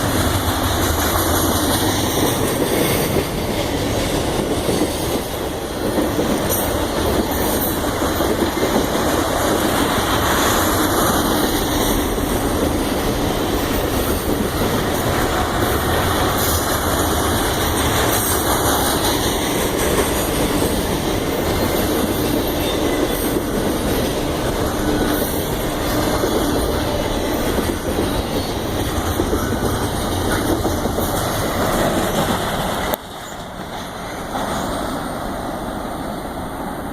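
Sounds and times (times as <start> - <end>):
train wheels on rails: 0.0 - 36.9.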